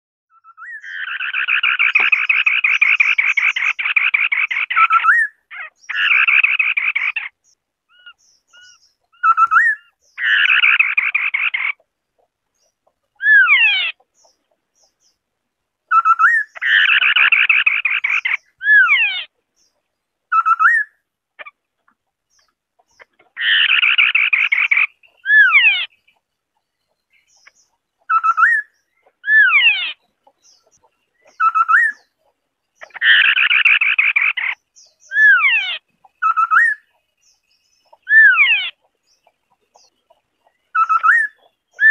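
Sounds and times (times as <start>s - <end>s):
bird trilling: 0.3s - 15.2s, 15.9s - 19.3s, 20.3s - 21.6s, 22.4s - 26.2s, 26.9s - 41.9s.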